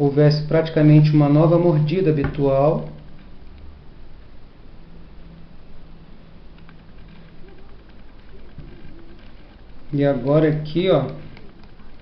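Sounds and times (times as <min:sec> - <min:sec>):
faint steady hiss: 0:00.0 - 0:12.0
low hum: 0:00.0 - 0:12.0.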